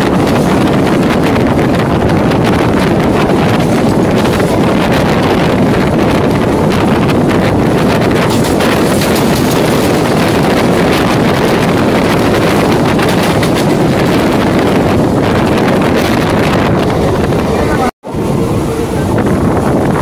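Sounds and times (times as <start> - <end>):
train rumble and rattle: 0.0 - 20.0
wind buffeting microphone: 0.0 - 20.0.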